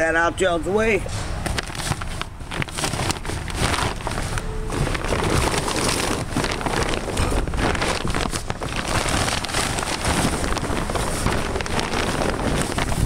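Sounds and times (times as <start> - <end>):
plastic cover crinkling: 1.5 - 13.0.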